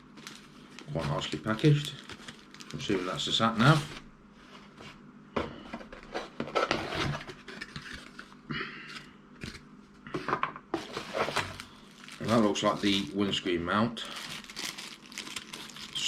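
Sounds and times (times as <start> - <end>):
cardboard and plastic rustling: 0.0 - 8.4, 10.8 - 16.0.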